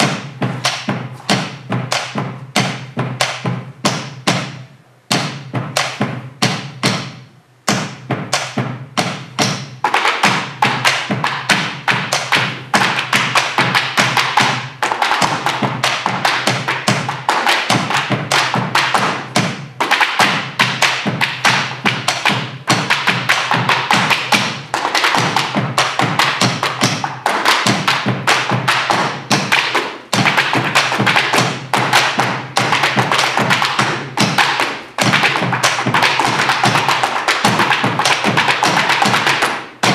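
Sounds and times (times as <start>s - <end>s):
boleadoras striking wooden floor: 0.0s - 39.9s
drums: 0.0s - 39.9s
stamping footwork: 0.0s - 39.9s.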